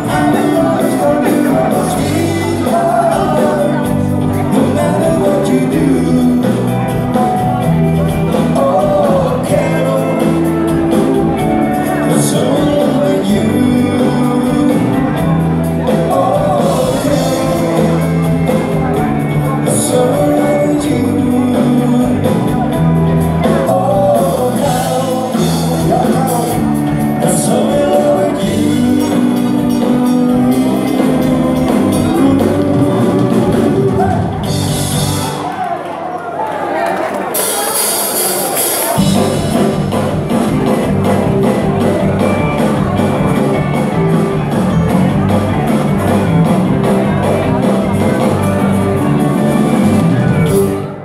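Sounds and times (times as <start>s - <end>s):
live band with singer: 0.0s - 51.0s.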